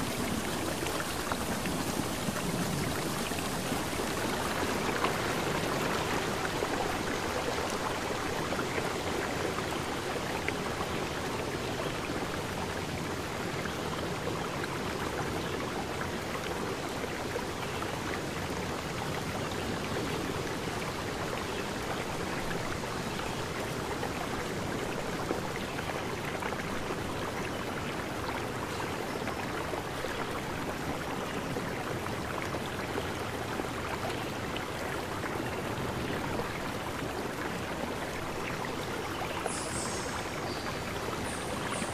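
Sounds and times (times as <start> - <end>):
flowing water rushing: 0.0 - 41.9.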